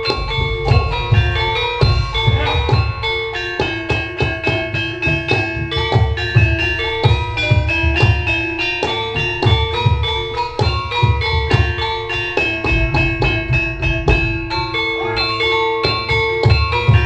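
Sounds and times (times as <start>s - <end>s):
gamelan metal keys and gongs: 0.0s - 17.0s
low drum beats: 0.0s - 17.0s.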